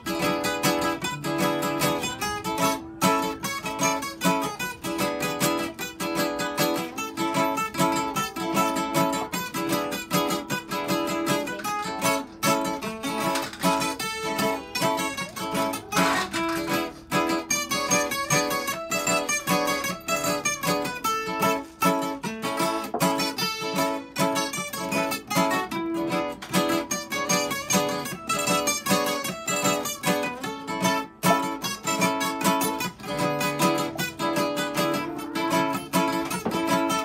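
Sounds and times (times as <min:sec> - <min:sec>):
acoustic guitars playing: 0:00.0 - 0:37.0.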